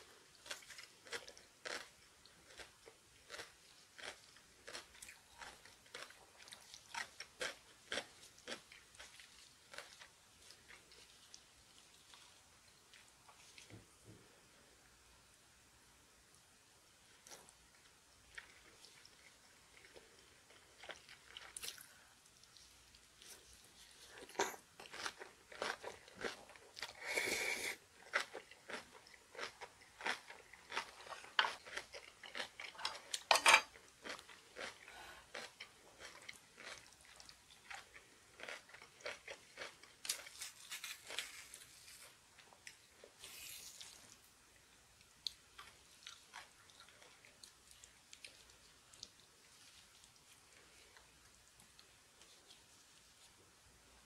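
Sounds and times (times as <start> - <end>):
chewing crunchy food: 0.0 - 13.8, 17.2 - 44.2, 45.0 - 53.4.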